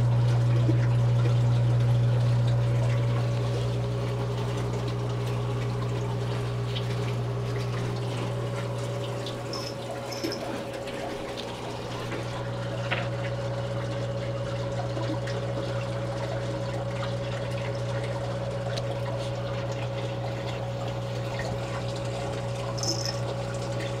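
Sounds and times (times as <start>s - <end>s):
water pump humming: 0.0s - 24.0s
water trickling and pouring: 0.0s - 24.0s.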